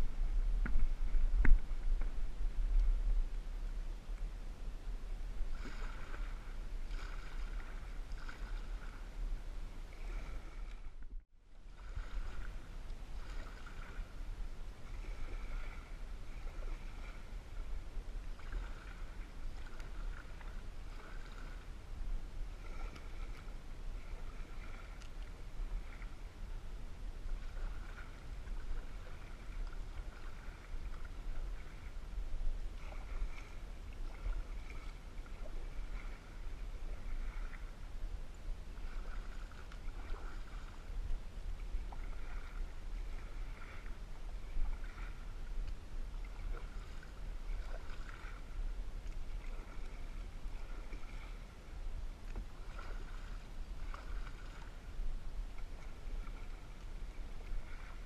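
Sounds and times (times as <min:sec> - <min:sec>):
steady low rumble: 0:00.0 - 0:58.0
paddle strokes swishing and dripping: 0:05.2 - 0:58.0.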